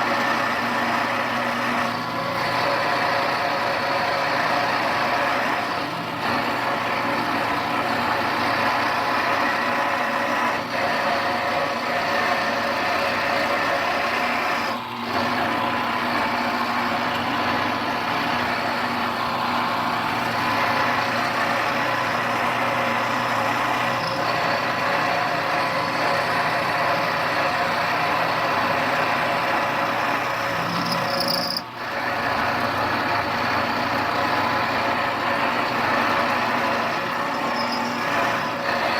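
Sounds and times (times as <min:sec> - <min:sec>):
milling machine cutting whine: 0:00.0 - 0:38.9.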